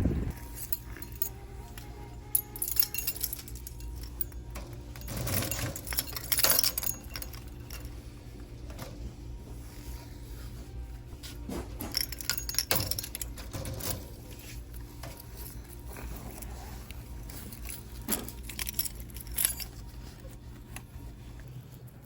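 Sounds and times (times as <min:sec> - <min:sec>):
low steady rumble: 0:00.0 - 0:22.0
metallic jingling and clinking: 0:00.3 - 0:08.2, 0:11.5 - 0:22.0.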